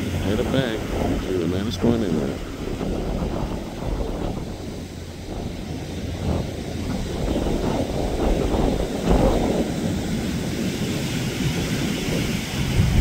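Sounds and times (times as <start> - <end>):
wind buffeting microphone: 0.0 - 13.0
yacht engines and wake rumbling: 0.0 - 13.0.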